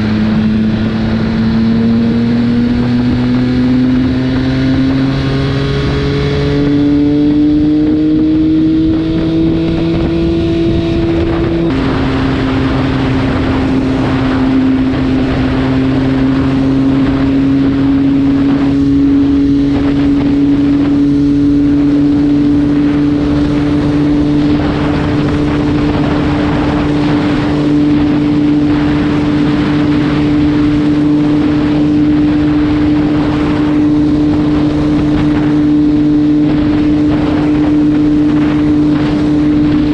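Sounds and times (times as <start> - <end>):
motorcycle engine accelerating: 0.0 - 39.9
wind rushing over microphone: 0.0 - 39.9.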